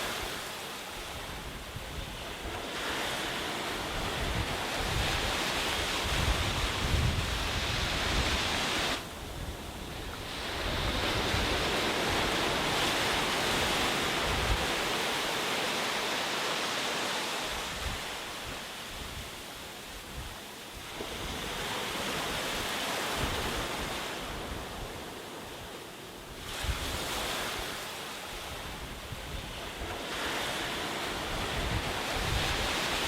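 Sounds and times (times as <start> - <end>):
sea waves washing onto beach: 0.0 - 33.0
wind rumbling on microphone: 1.0 - 15.3, 17.4 - 33.0.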